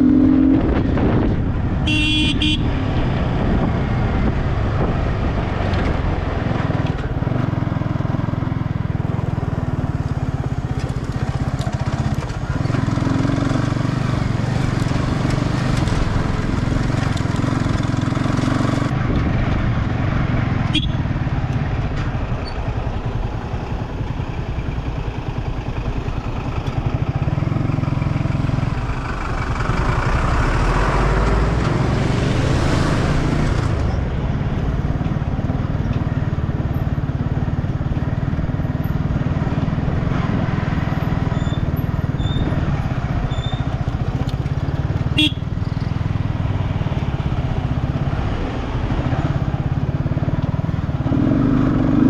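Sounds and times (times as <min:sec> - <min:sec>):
motorcycle engine running: 0:00.0 - 0:30.2, 0:31.2 - 0:52.0.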